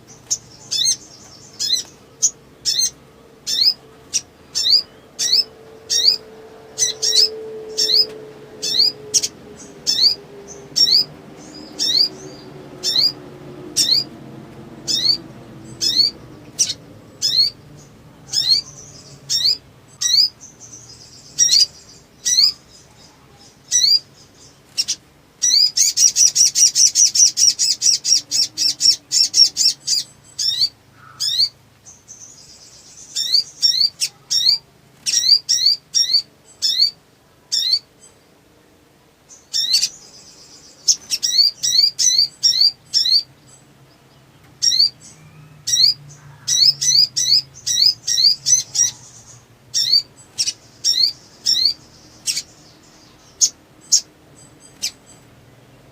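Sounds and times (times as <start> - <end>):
bird chirping: 0.0 - 38.5, 39.2 - 55.9.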